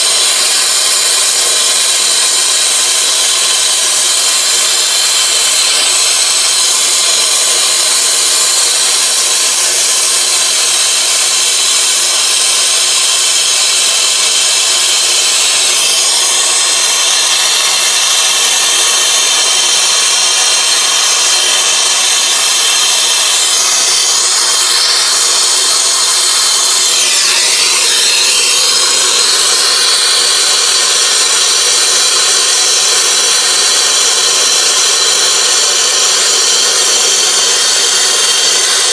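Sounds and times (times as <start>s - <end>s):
torch flame hissing: 0.0s - 38.9s.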